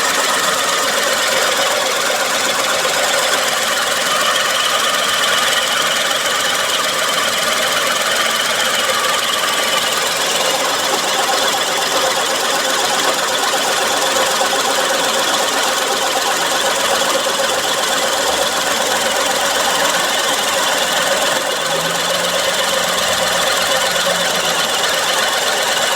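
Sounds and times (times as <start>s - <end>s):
abnormal mechanical noise: 0.0s - 25.9s
car engine idling: 0.0s - 25.9s.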